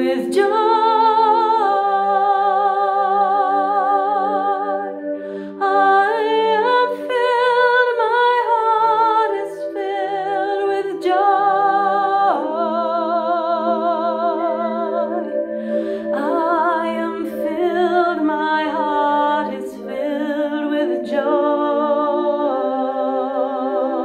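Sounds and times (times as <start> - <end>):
instrument sustaining a chord: 0.0 - 24.0
woman singing wordless notes: 0.0 - 24.0.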